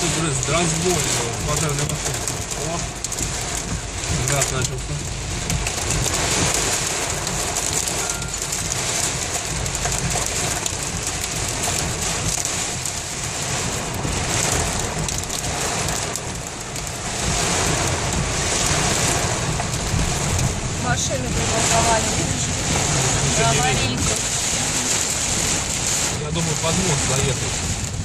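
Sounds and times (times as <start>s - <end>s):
rain and hail drumming on car: 0.0s - 28.0s.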